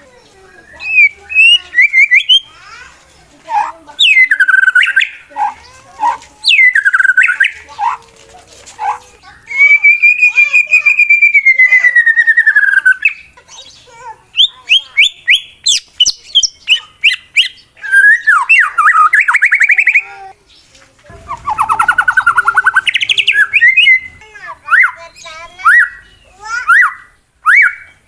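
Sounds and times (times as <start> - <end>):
songbird trilling and whistling: 0.4 - 2.6, 3.5 - 8.0, 8.8 - 28.0.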